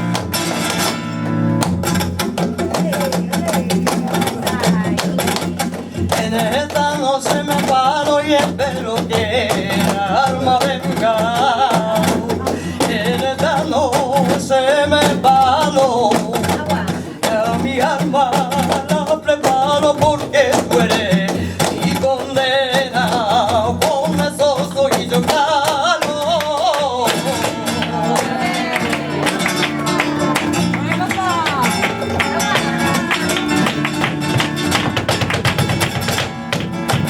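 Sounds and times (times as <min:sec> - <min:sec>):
flamenco guitar: 0:00.0 - 0:37.0
person singing with heavy vibrato: 0:02.5 - 0:34.6.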